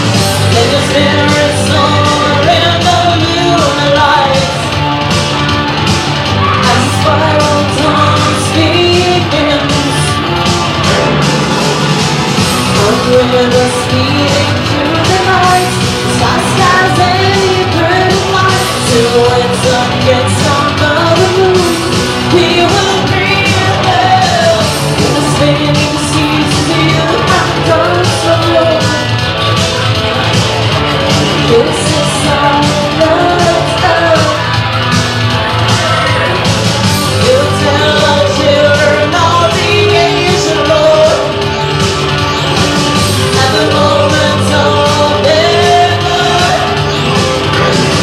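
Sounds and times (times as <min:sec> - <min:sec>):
woman singing: 0:00.0 - 0:04.9, 0:06.4 - 0:10.4, 0:12.5 - 0:29.3, 0:31.3 - 0:34.9, 0:37.0 - 0:41.7, 0:42.6 - 0:48.0
drums beating: 0:00.0 - 0:48.0
electric guitar and bass: 0:00.0 - 0:48.0.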